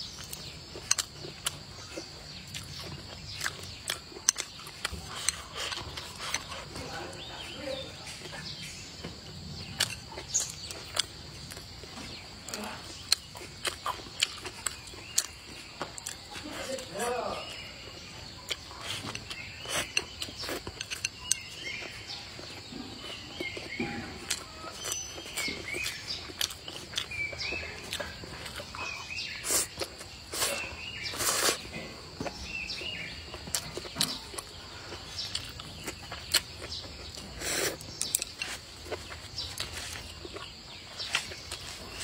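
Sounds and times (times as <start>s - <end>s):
person chewing food: 0.0s - 42.0s
small birds chirping: 0.0s - 42.0s.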